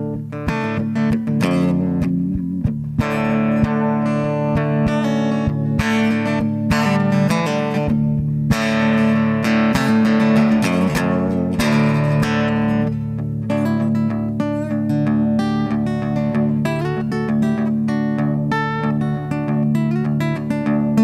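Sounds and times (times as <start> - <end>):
electric guitar strumming chords: 0.0 - 21.0.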